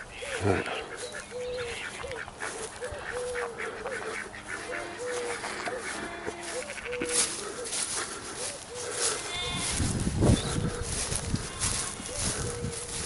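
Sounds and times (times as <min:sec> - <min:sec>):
chickens clucking: 0:00.0 - 0:13.0
ducks calling: 0:00.0 - 0:13.0.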